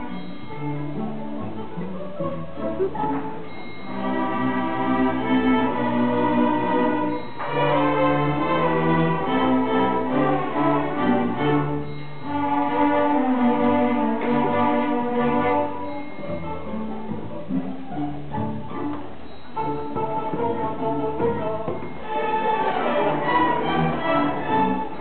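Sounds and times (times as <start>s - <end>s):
string orchestra playing lively piece: 0.0s - 25.0s.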